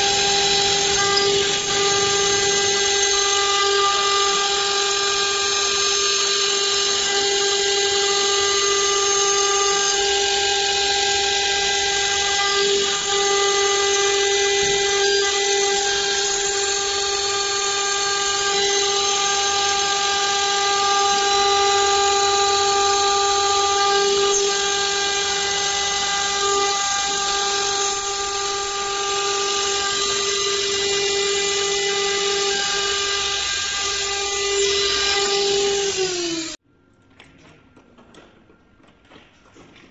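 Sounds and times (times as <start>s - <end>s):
cnc router machining whine: 0.0s - 36.6s.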